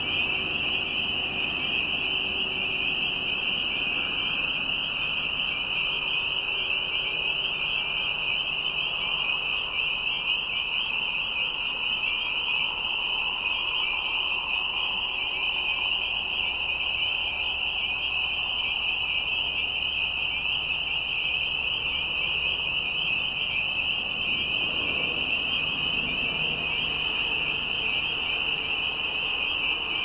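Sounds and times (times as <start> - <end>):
chorus of frog peeps: 0.0 - 30.0
lower frog calling: 0.0 - 30.0.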